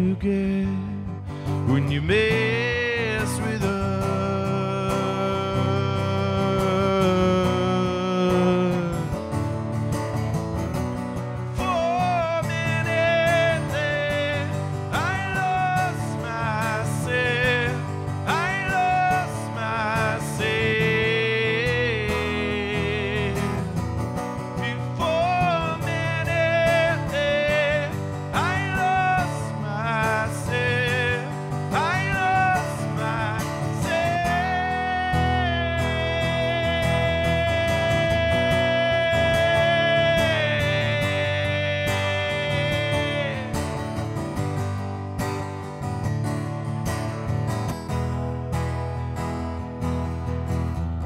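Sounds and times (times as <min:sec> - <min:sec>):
man singing: 0:00.0 - 0:09.4, 0:11.4 - 0:44.7
acoustic guitar chords: 0:00.0 - 0:51.0.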